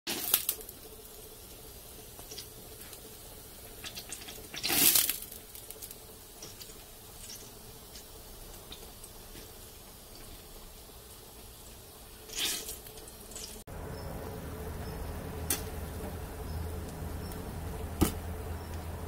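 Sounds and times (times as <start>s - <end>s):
fat sizzling and crackling: 0.1s - 19.0s.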